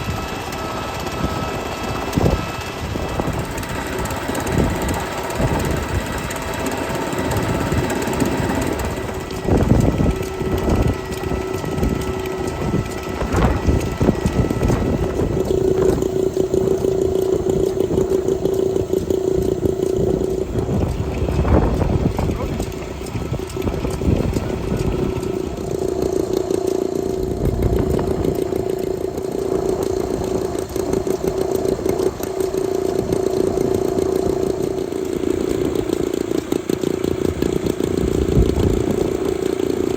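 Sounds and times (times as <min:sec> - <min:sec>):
stationary engine knocking: 0:00.0 - 0:39.9
steady humming tone: 0:00.0 - 0:39.9.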